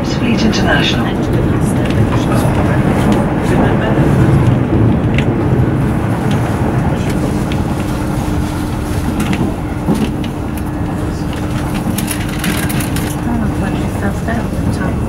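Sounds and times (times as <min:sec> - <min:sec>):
train equipment hum: 0:00.0 - 0:15.0
train wheels rumbling on rail: 0:00.0 - 0:15.0.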